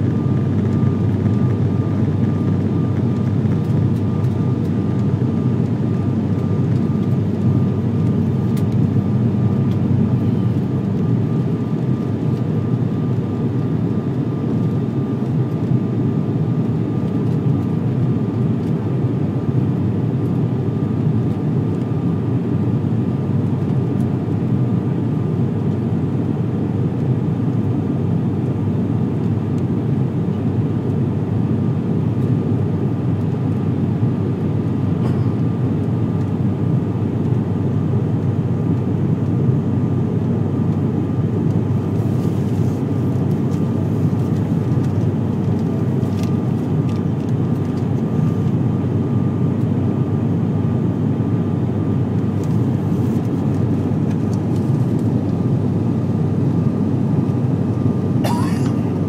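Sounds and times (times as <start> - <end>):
propeller engine drone: 0.0 - 59.0.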